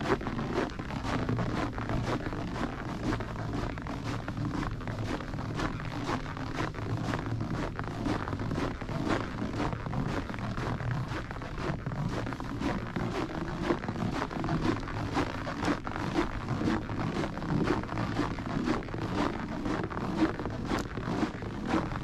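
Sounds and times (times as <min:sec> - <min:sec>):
footsteps crunching: 0:00.0 - 0:22.0
steady rushing background: 0:00.0 - 0:22.0.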